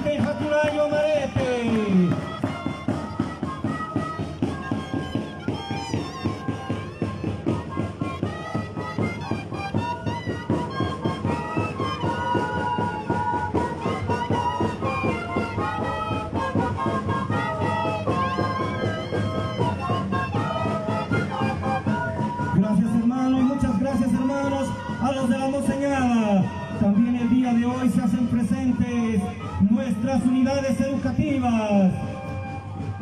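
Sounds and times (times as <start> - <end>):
steady drum beat: 0.0 - 31.6
andean flutes playing a melody: 0.0 - 33.0.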